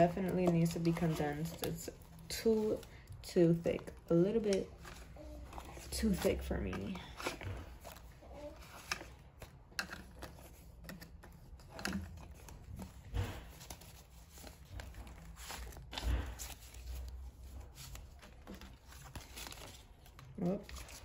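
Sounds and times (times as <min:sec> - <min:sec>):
paper bills rustling and flicking: 0:00.0 - 0:21.0.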